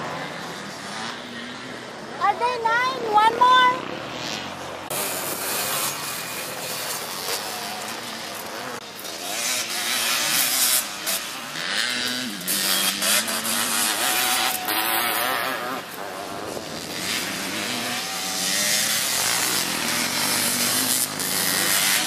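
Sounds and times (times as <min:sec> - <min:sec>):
three-wheeler engines racing: 0:00.0 - 0:22.0.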